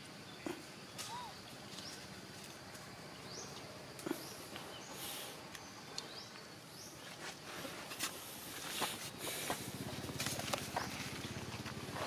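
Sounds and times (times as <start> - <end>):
faint hiss: 0.0 - 11.9.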